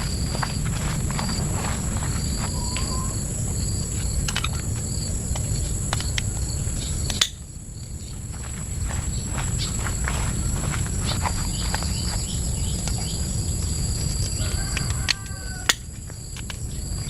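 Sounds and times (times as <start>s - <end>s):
insects droning: 0.0s - 17.0s
low outdoor rumble: 0.0s - 17.0s.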